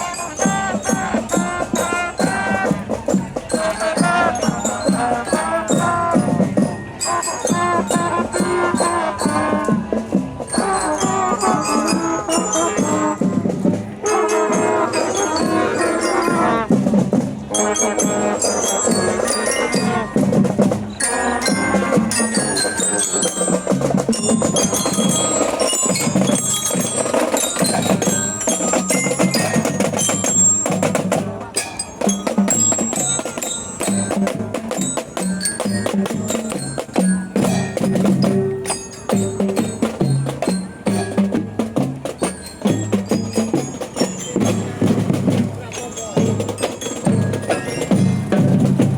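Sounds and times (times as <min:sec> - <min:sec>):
glockenspiel melody: 0:00.0 - 0:48.9
snare and bass drums: 0:00.0 - 0:48.9.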